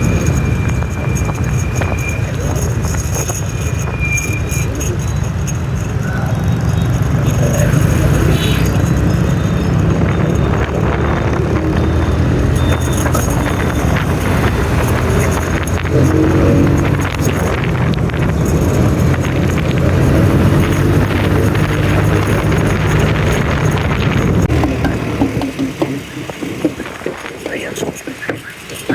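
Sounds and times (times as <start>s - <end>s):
motorbike engine: 0.0s - 28.9s
road traffic noise: 0.0s - 28.9s.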